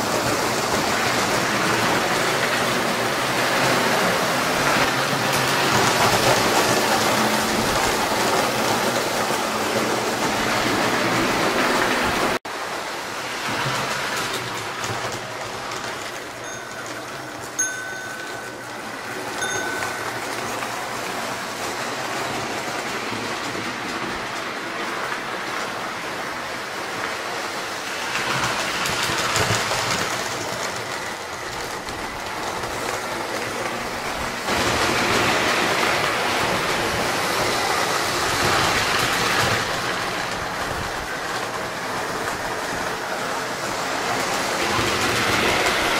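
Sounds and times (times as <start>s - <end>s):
toy train wheels and motor rumbling: 0.0s - 45.9s.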